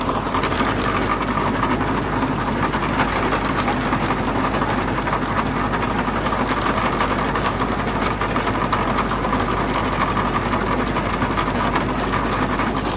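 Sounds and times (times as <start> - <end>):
tractor engine under load: 0.0 - 12.9.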